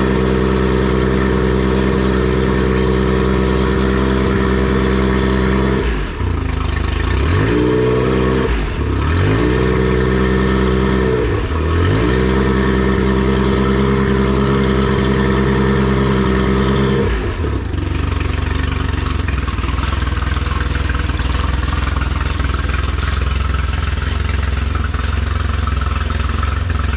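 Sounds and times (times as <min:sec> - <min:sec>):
outboard motor running: 0:00.0 - 0:26.9.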